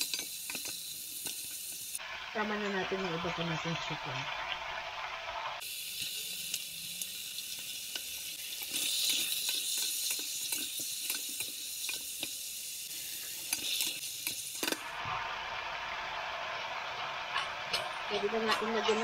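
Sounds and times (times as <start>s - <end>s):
chicken sizzling in fat: 0.0s - 19.0s.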